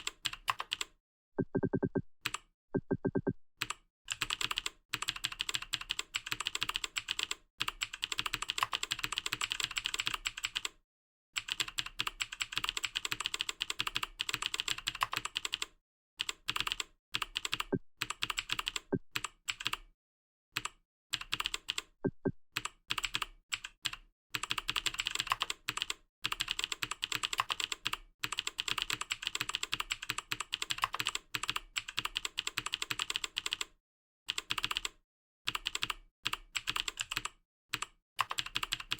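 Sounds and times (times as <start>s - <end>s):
fast typing on keyboard: 0.0s - 10.8s, 11.4s - 19.9s, 20.6s - 21.9s, 22.6s - 38.9s.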